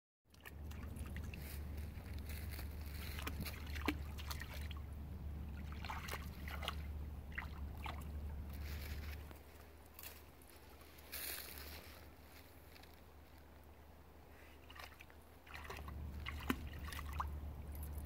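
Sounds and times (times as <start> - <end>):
dog paws splashing in water: 0.3 - 12.7, 14.6 - 18.0
steady low rumble: 0.4 - 14.4, 15.2 - 18.0.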